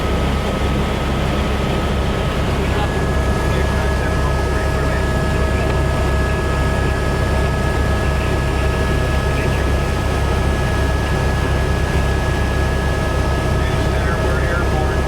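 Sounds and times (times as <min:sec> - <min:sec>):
constant high whine: 0:00.0 - 0:15.0.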